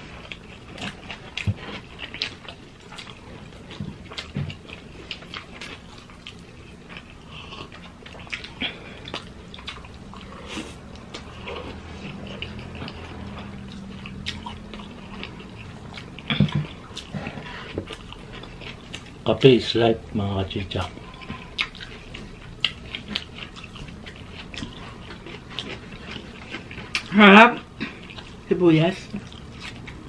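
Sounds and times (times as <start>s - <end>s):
chewing and wet mouth smacks: 0.2s - 19.2s, 20.8s - 30.0s.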